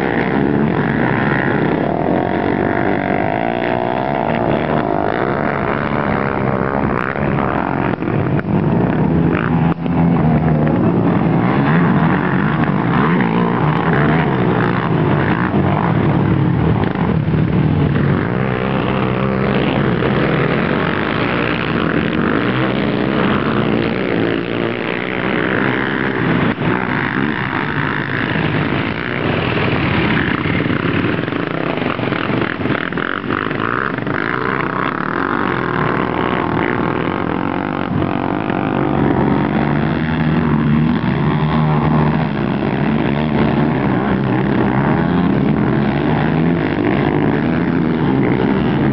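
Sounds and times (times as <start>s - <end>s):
quad bike engines revving: 0.0s - 48.9s.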